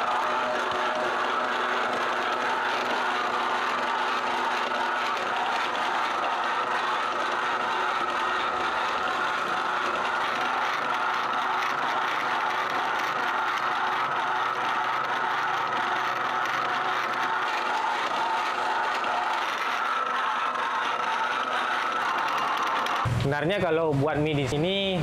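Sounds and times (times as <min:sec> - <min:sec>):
noodle machine rollers droning: 0:00.0 - 0:23.1.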